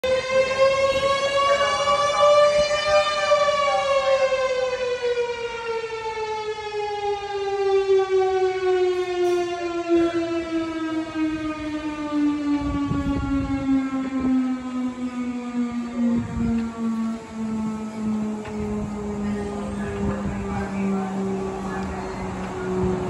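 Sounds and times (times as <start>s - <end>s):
mechanical fire siren whine: 0.0s - 23.0s.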